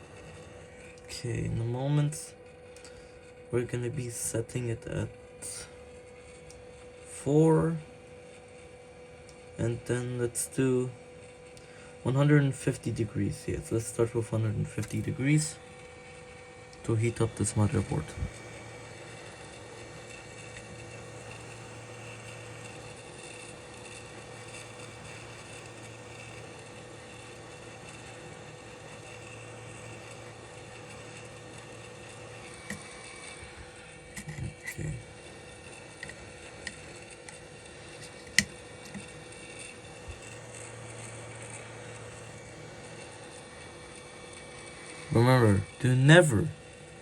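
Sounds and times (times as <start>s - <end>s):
hot air station blowing: 0.0s - 47.0s
low steady hum: 0.0s - 47.0s.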